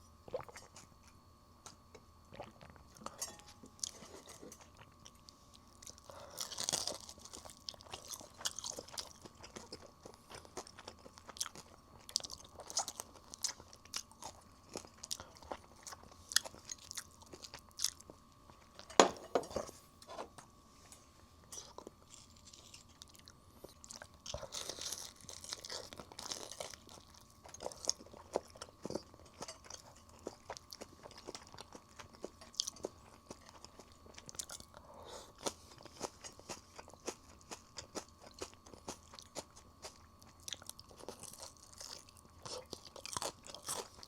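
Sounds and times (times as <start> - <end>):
crunching fried chicken: 2.3 - 18.9, 21.5 - 44.0.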